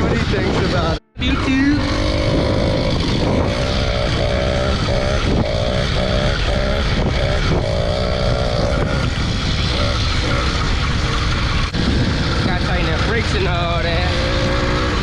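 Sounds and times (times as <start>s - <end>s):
small motorbike engine running: 0.0s - 15.0s
wind rumble on microphone: 0.0s - 15.0s.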